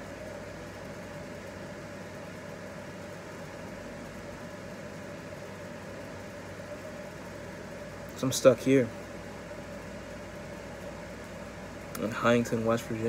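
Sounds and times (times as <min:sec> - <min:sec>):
low hum with hiss: 0:00.0 - 0:13.0.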